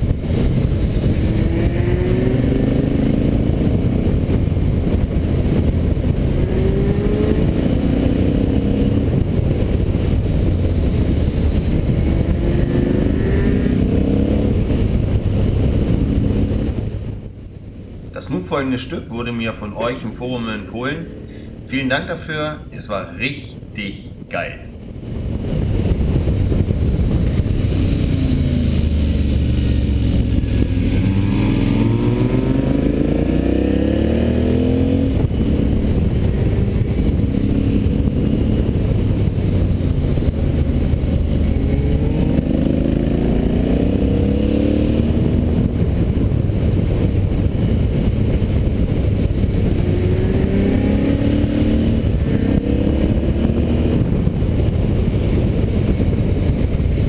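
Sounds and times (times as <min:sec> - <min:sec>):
motorcycle engine accelerating: 0:00.0 - 0:18.1, 0:24.8 - 0:57.0.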